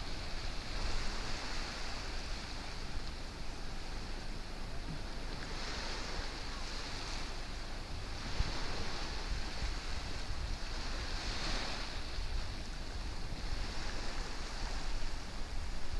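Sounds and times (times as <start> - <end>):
wind rumble on microphone: 0.0 - 15.9.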